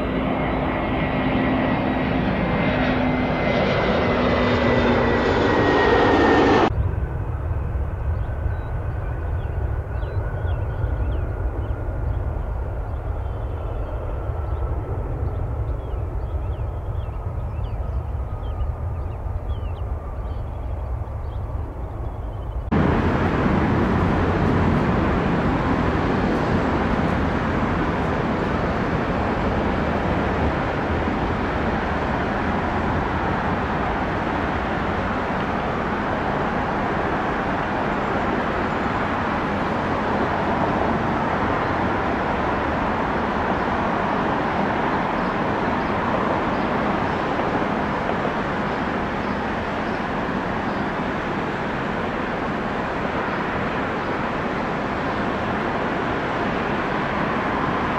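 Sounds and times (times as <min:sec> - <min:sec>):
jet engine rush: 0:00.0 - 0:57.9.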